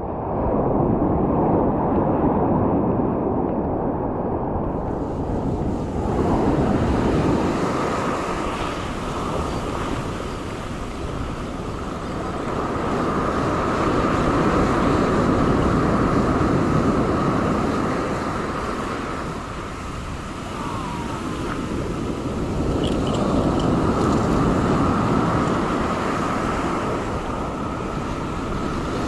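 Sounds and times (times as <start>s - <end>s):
ocean surf washing on shore: 0.0s - 29.0s
wind buffeting microphone: 0.0s - 29.0s.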